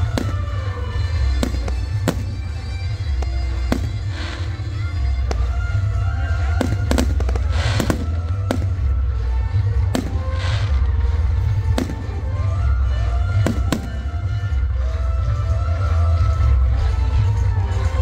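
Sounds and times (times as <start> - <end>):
fireworks bangs: 0.0 - 14.6
music playing: 0.0 - 18.0.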